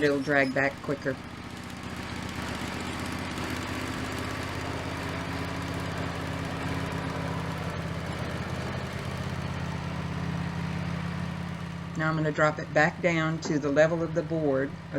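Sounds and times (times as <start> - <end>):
sawmill engine running: 0.0 - 14.9.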